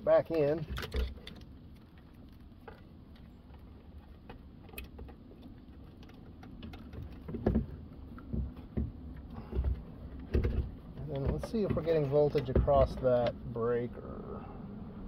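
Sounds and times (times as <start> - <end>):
connector handling clicks and rustles: 0.0 - 13.6.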